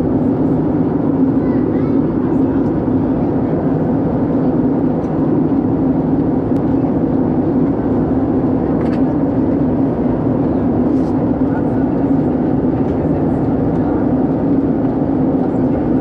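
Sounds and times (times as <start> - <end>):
airplane cabin engine drone: 0.0 - 16.0.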